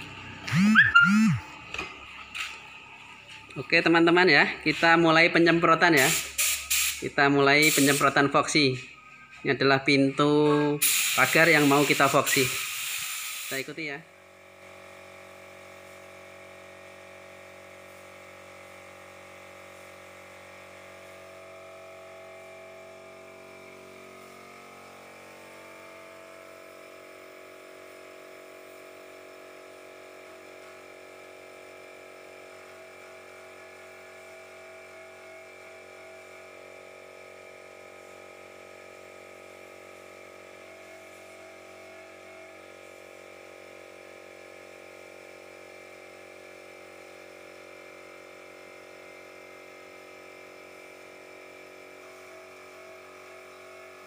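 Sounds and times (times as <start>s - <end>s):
air compressor running: 0.0s - 54.0s.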